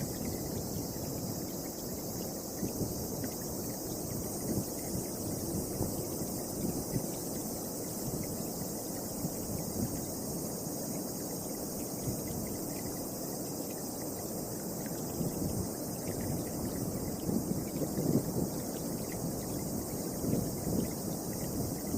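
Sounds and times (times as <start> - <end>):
wind blowing on microphone: 0.0 - 10.6, 11.8 - 13.0, 14.4 - 21.9
insects chirping: 0.0 - 21.9.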